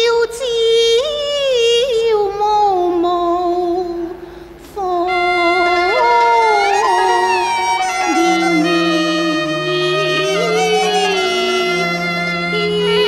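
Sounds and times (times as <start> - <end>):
woman singing opera: 0.0 - 13.0.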